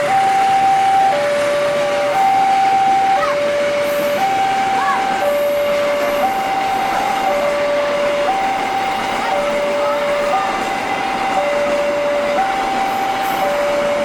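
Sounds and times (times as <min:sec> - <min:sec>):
level crossing alarm two-tone: 0:00.0 - 0:14.0.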